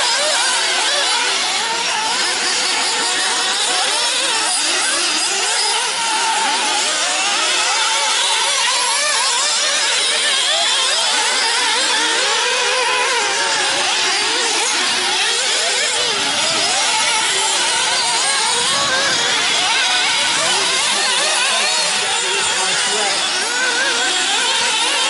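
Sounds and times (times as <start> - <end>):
small two-stroke engines revving: 0.0 - 25.0.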